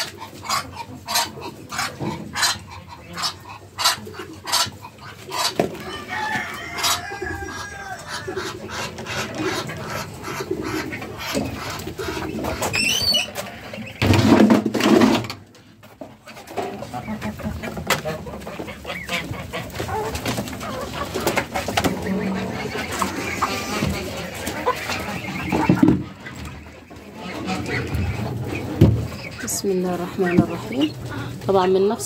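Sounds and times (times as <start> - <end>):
chickens clucking: 0.0 - 32.0
farmyard fowl calling: 0.0 - 32.0.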